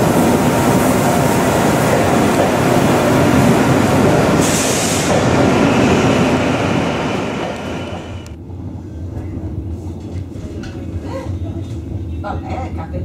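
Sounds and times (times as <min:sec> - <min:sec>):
high-speed train rumbling: 0:00.0 - 0:13.0.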